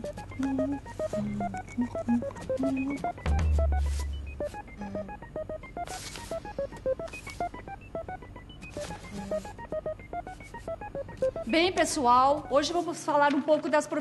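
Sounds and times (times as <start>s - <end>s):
high electronic notes music: 0.0s - 13.0s.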